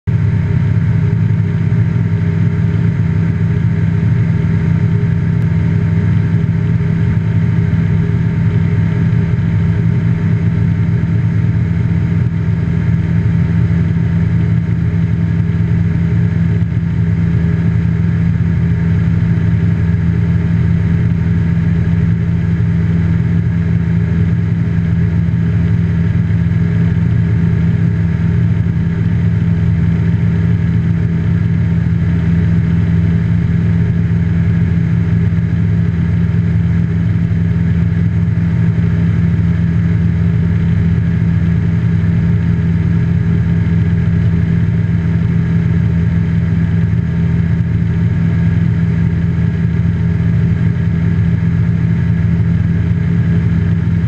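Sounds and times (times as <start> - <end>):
aircraft engine droning: 0.1 - 54.0.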